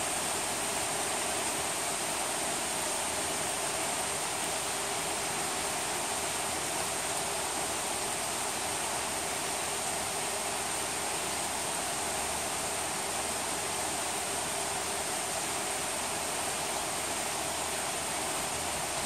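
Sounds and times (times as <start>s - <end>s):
rain falling on forest: 0.0s - 19.0s.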